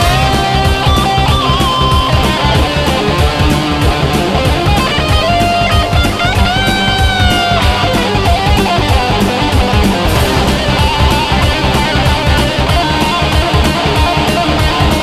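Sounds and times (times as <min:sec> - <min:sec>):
fast drumming: 0:00.0 - 0:15.0
rock music with electric guitar: 0:00.0 - 0:15.0.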